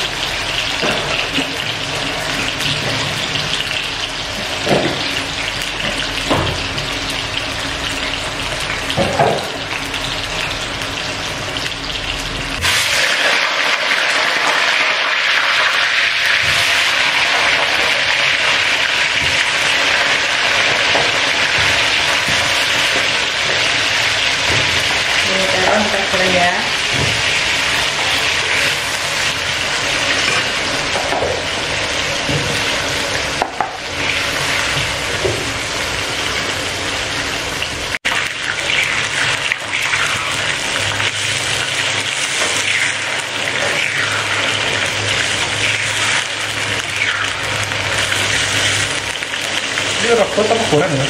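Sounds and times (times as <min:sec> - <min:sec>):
eggplant sizzling in oil: 0:00.0 - 0:51.0.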